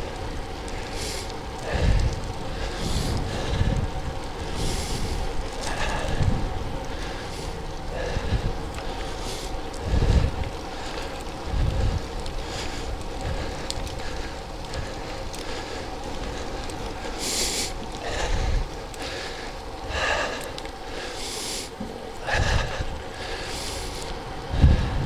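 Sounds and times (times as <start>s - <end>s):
wind rushing over microphone: 0.0s - 20.5s, 21.7s - 25.0s
bicycle tyres humming on road: 0.0s - 25.0s.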